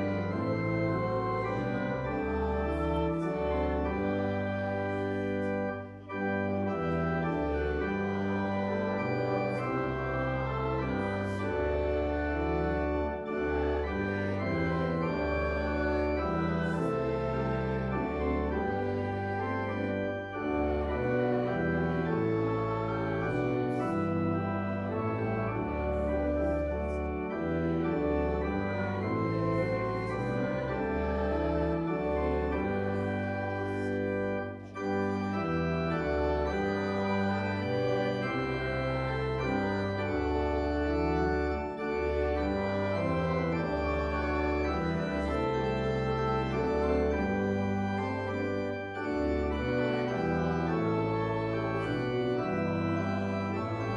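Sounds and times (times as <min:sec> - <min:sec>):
church organ playing a hymn: 0:00.0 - 0:53.9.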